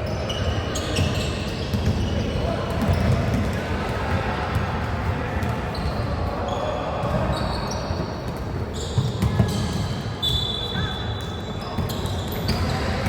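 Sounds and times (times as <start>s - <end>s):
sneakers squeaking: 0.0s - 4.6s, 5.4s - 13.0s.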